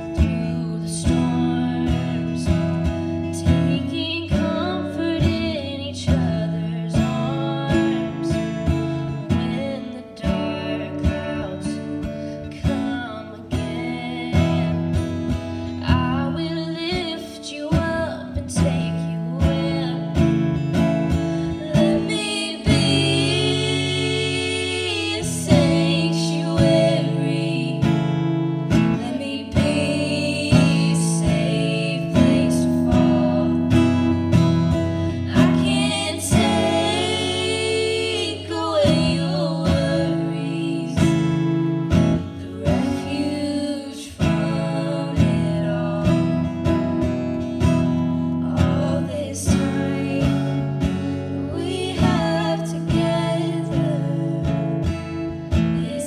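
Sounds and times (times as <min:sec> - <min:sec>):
strummed acoustic guitar: 0:00.0 - 0:56.0
two women singing duet: 0:00.0 - 0:56.0.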